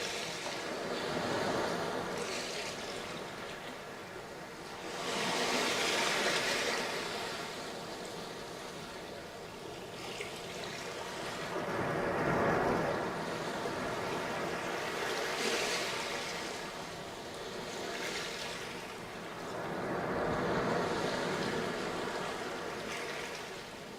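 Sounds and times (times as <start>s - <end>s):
waves breaking on beach: 0.0s - 23.9s.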